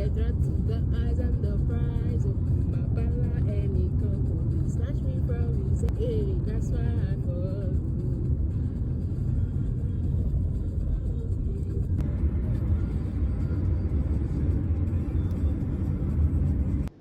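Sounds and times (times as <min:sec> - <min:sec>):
car rumble while driving: 0:00.0 - 0:17.0
music playing: 0:00.0 - 0:17.0.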